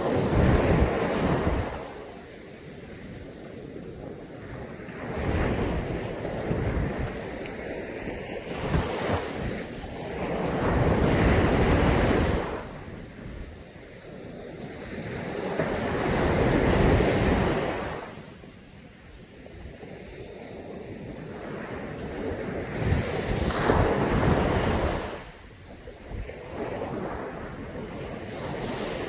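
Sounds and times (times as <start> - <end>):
waves breaking on a beach: 0.0 - 29.0.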